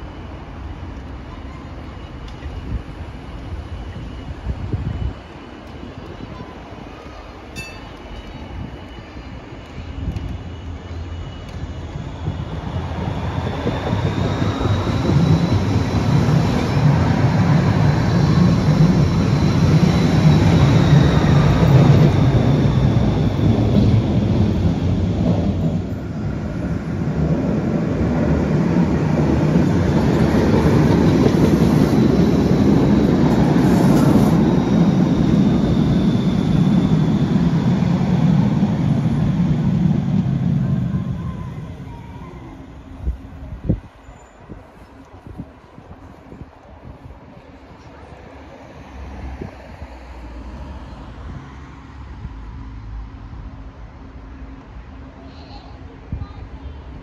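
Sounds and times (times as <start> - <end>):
tram wheels rumbling: 0.0 - 57.0.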